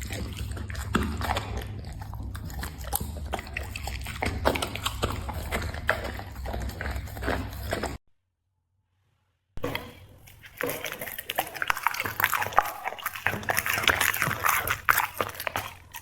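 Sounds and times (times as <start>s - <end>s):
dog chewing wetly: 0.0s - 8.0s, 9.6s - 16.0s.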